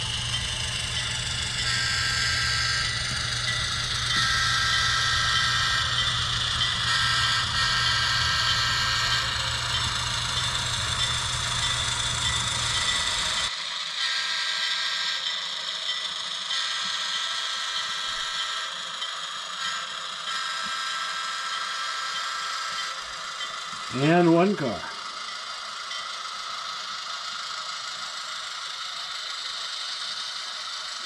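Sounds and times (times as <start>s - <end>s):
high motor whine: 0.0s - 31.0s
model locomotive hum: 0.0s - 31.0s.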